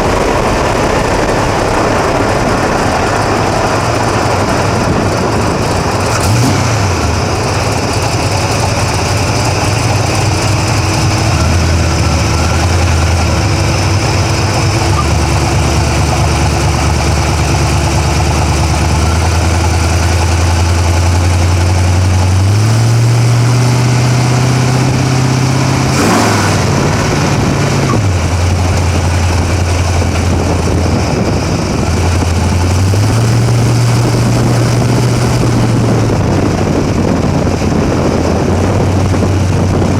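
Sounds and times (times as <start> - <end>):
car engine idling lumpy: 0.0 - 39.9.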